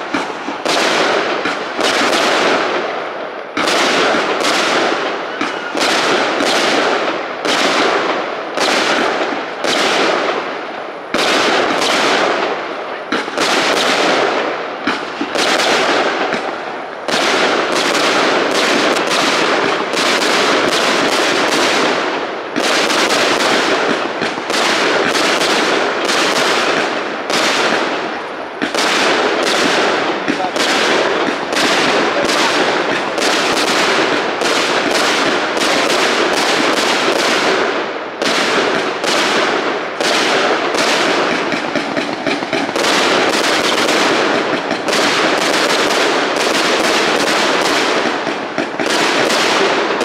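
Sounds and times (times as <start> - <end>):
fireworks bangs and crackle: 0.0 - 50.0.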